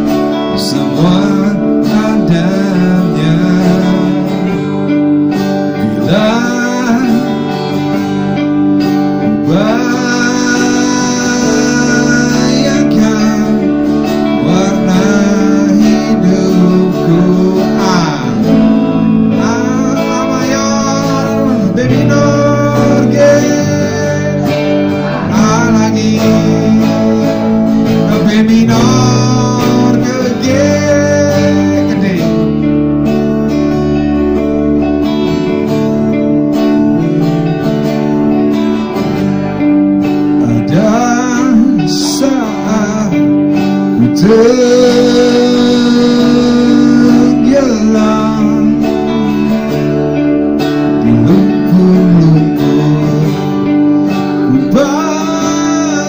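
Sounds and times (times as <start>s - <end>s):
electric guitar lead melody bending: 0.0s - 56.0s
rock band playing live: 0.0s - 56.0s.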